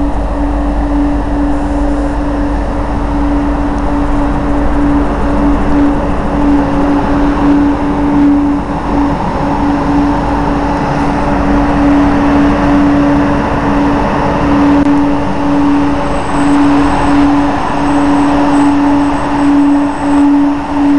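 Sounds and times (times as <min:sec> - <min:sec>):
train rolling with humming rumble: 0:00.0 - 0:20.9.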